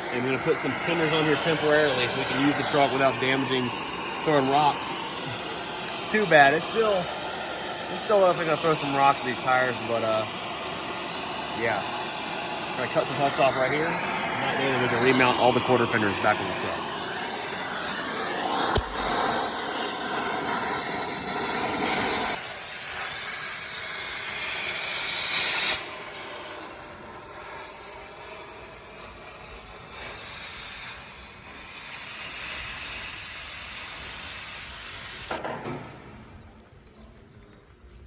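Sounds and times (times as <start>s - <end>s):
cutting torch hissing: 0.0s - 35.4s.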